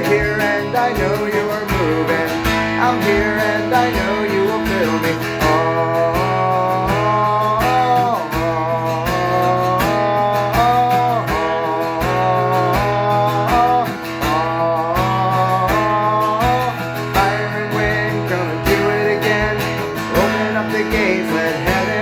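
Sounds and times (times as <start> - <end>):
bass and drum beat: 0.0 - 22.0
guitar melody with bending notes: 0.0 - 22.0.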